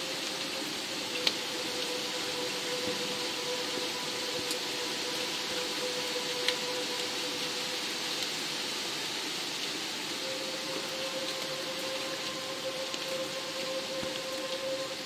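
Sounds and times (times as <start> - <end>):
low ambient music note: 0.0 - 8.7, 10.0 - 15.0
louder raindrops: 0.0 - 15.0
rain hiss: 0.0 - 15.0.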